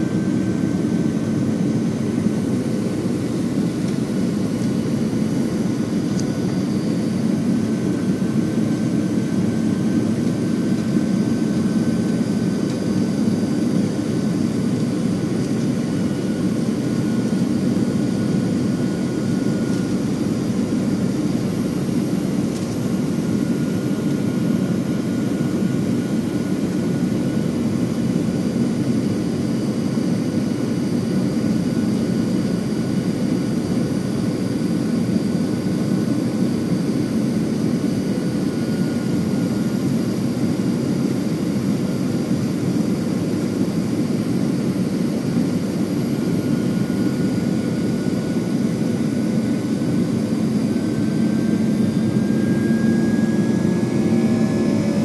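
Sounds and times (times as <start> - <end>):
faint steady whining tones: 0.0 - 55.0
jet engine and airflow roar: 0.0 - 55.0.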